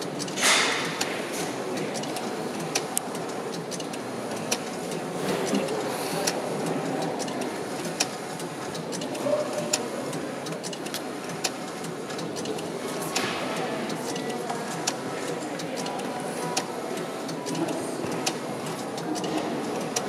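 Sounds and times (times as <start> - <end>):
background murmur: 0.0 - 20.0.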